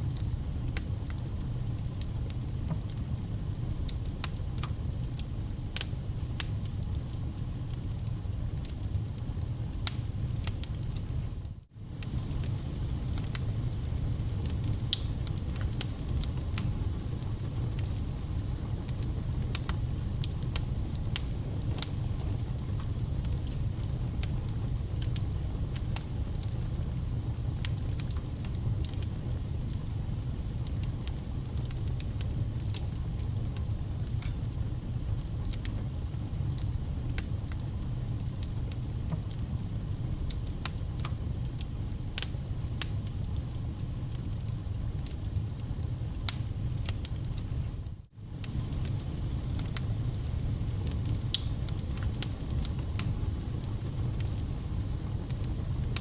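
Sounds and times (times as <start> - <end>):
burning logs crackling and popping: 0.0 - 56.0
flames rumbling: 0.0 - 56.0.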